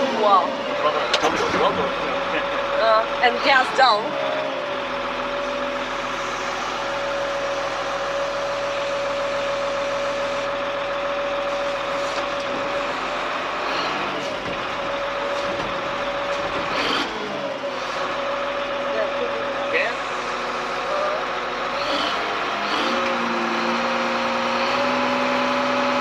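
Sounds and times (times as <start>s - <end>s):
diesel engine running: 0.0s - 26.0s
high hydraulic whine: 0.0s - 26.0s.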